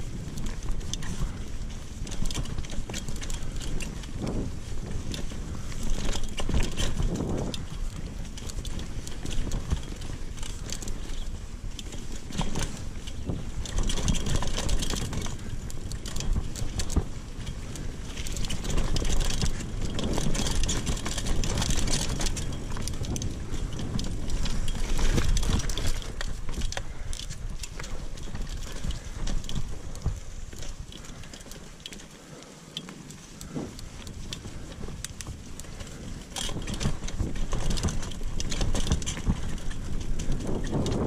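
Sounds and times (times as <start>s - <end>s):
bike rattling and clicking: 0.0s - 41.0s
bike tyre rumble on dirt: 0.0s - 41.0s.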